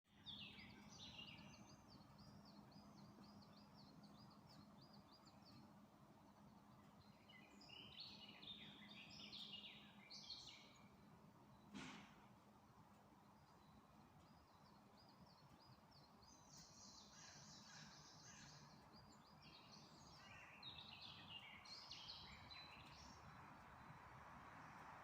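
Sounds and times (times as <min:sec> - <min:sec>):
songbirds singing: 0:00.1 - 0:25.0.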